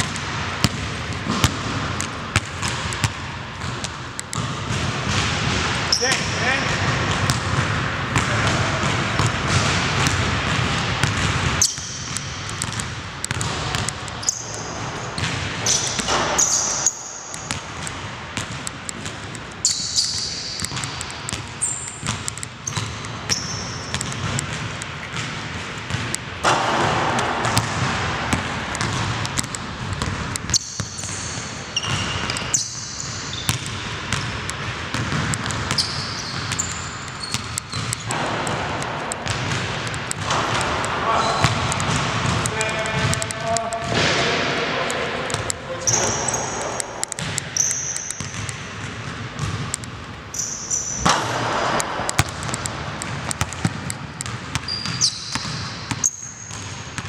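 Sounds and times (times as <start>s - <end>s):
basketball bouncing on wooden floor: 0.0s - 57.0s
sneaker squeaks: 1.1s - 26.2s, 28.7s - 57.0s.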